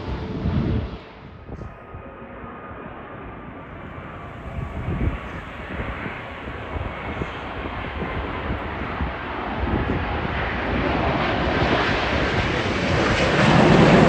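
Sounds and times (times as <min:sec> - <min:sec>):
jet airliner overhead: 0:00.0 - 0:14.0.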